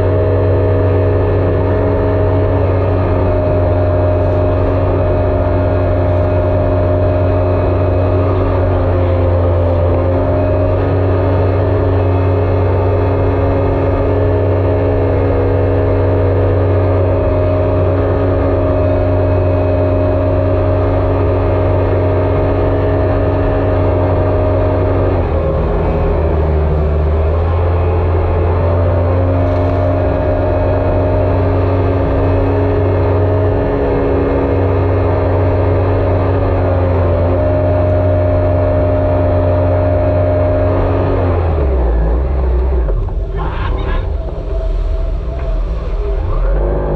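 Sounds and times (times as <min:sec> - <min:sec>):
jet ski engine droning: 0:00.0 - 0:46.9.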